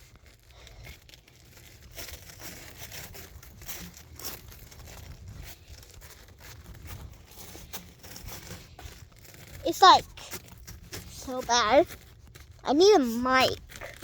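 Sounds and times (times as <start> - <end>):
crunching crusted snow: 0.0 - 14.0.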